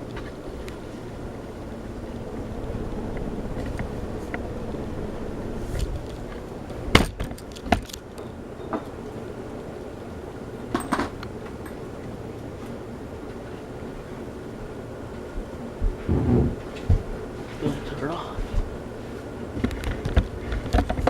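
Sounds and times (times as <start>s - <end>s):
ceiling fan air rush: 0.0s - 21.0s.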